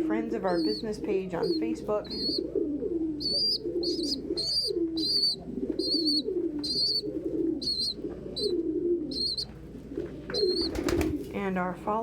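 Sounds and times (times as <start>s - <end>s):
pigeons cooing: 0.0s - 11.4s
young pigeon begging peeps: 0.0s - 12.0s.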